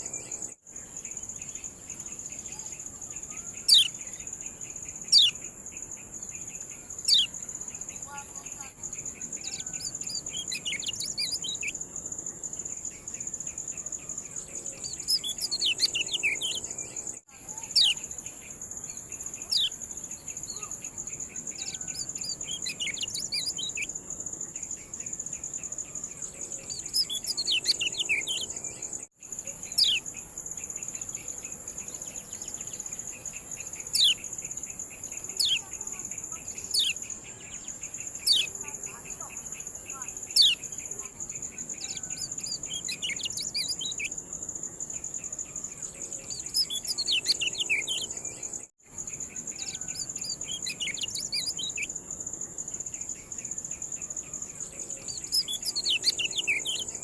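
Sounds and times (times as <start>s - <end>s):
bird chirping calls: 0.0s - 44.2s, 44.8s - 57.0s.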